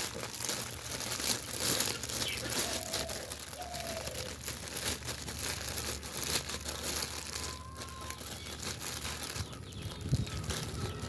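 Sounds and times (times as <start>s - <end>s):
packaging wrap crinkling: 0.0s - 11.0s.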